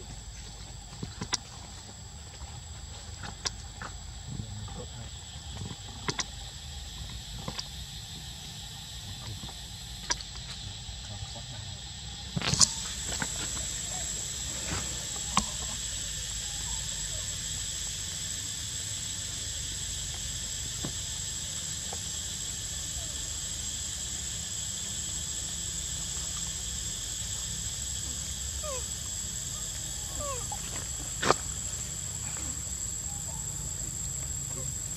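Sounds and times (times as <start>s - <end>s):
constant high whine: 0.0s - 34.9s
insect drone: 0.0s - 34.9s.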